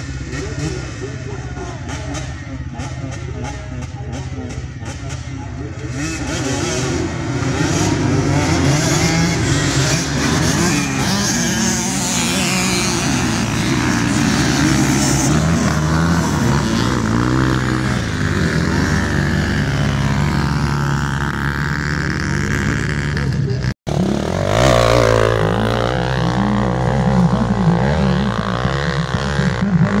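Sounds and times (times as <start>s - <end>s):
dirt bikes revving and accelerating: 0.0s - 30.0s.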